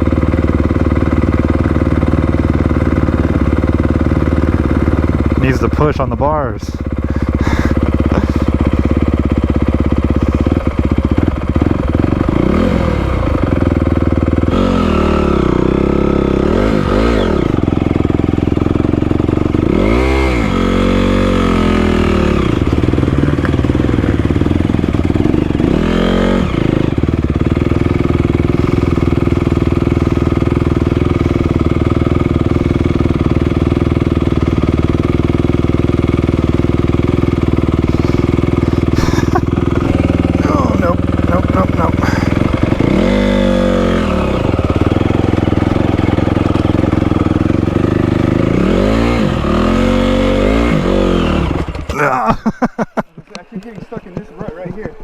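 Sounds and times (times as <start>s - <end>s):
dirt bike engine idling: 0.0s - 55.0s
dirt bike engine revving: 0.0s - 55.0s.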